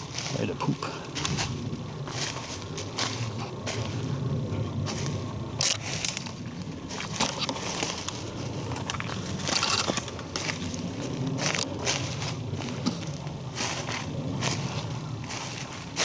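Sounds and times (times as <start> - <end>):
footsteps crunching through dry twigs: 0.0 - 16.0.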